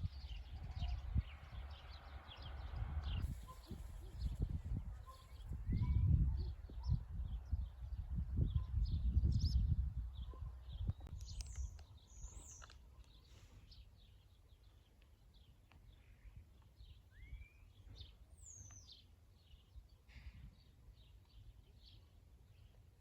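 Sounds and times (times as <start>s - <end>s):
birds chirping: 0.0s - 22.8s.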